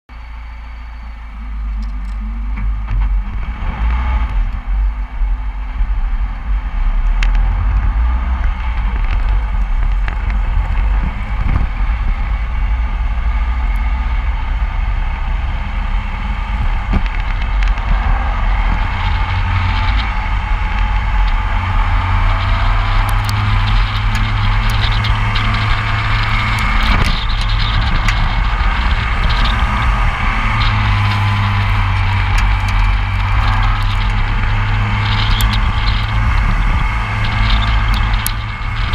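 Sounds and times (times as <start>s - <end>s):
car road noise: 0.1s - 38.9s
wind rushing over microphone: 1.4s - 38.9s.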